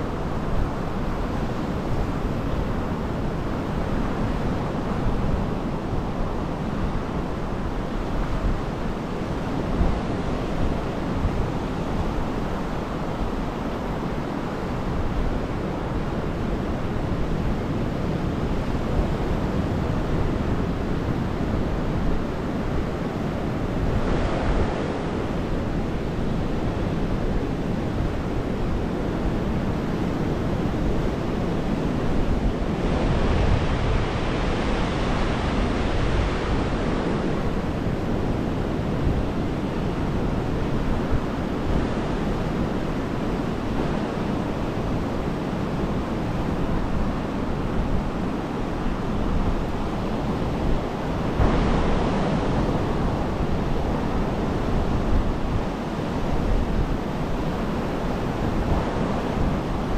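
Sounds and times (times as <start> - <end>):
waves breaking on a beach: 0.0 - 59.9.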